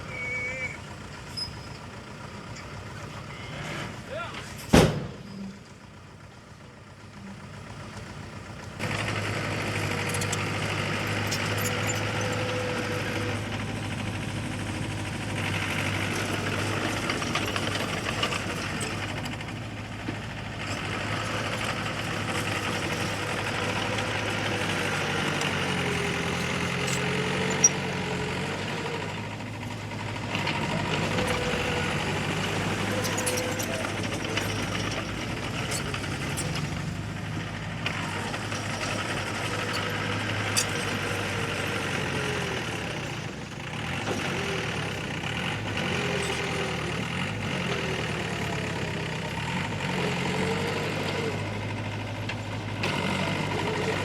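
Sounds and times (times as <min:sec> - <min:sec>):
heavy machine diesel engine: 0:00.0 - 0:54.0.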